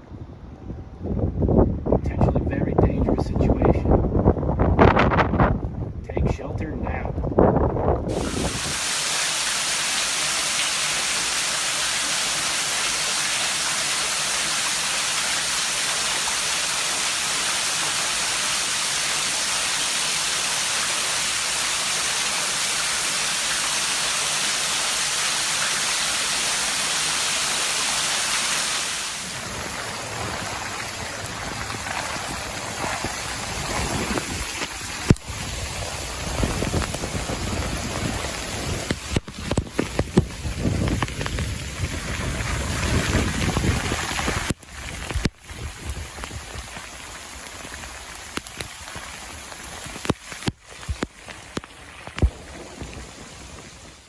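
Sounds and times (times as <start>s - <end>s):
running water: 8.1s - 53.7s
heavy rain pouring: 8.1s - 54.0s.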